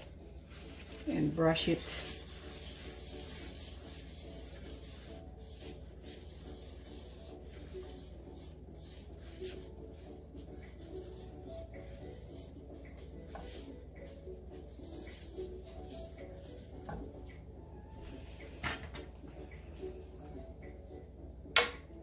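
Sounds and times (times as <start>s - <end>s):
brush rubbing oil on a pan: 0.0s - 18.6s
faint background music: 0.0s - 22.0s.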